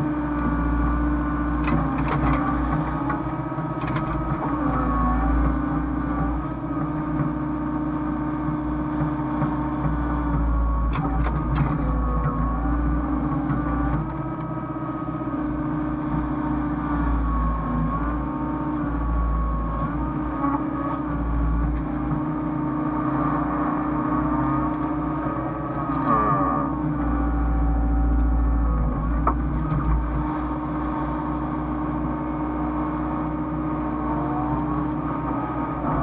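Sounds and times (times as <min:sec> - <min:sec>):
excavator engine humming: 0:00.0 - 0:36.0.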